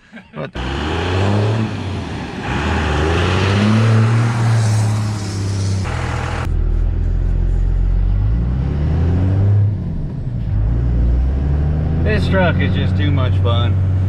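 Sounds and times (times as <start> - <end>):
diesel truck engine accelerating: 0.6 - 14.0.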